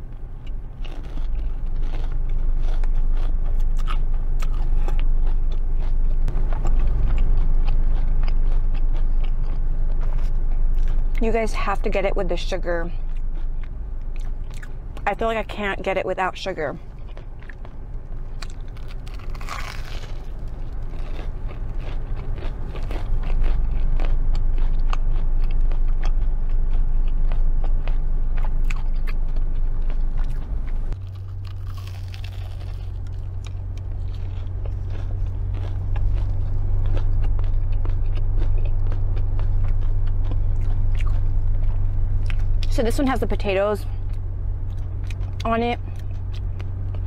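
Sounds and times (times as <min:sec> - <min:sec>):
crunchy biting and chewing: 0:00.0 - 0:11.2, 0:12.9 - 0:15.1, 0:16.8 - 0:42.7, 0:43.9 - 0:47.0
low steady hum: 0:00.0 - 0:47.0.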